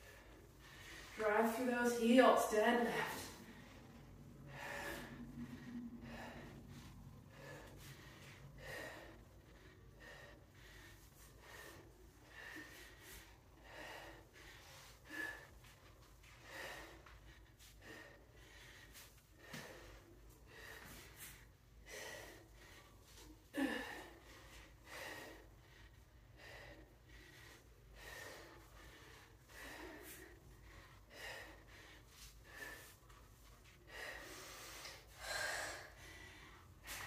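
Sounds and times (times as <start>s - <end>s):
person breathing heavily: 0.0s - 2.3s, 2.9s - 37.0s.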